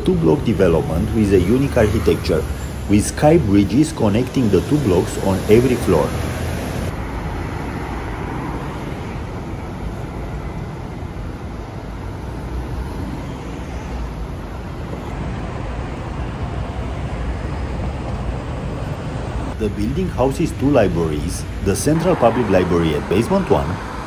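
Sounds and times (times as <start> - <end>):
bus passing: 0.0 - 24.0
city road traffic: 0.0 - 24.0.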